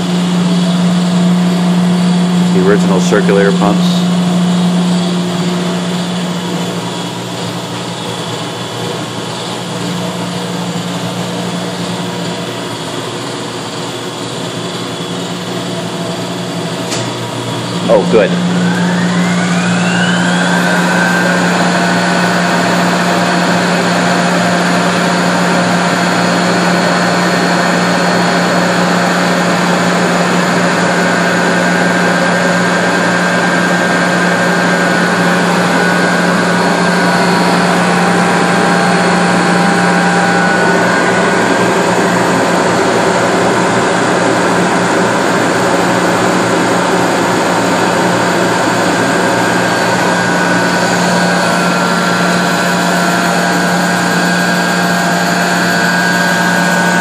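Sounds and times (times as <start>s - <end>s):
oil burner rushing: 0.0s - 57.0s.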